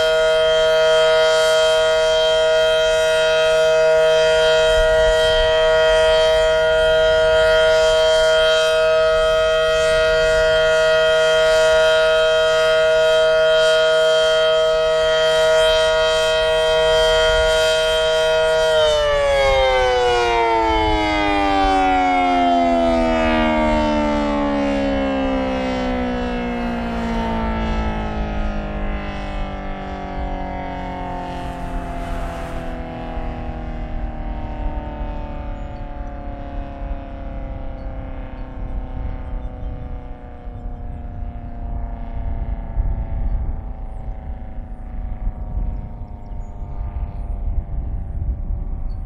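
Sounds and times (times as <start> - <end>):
rotating warning siren: 0.0 - 49.0.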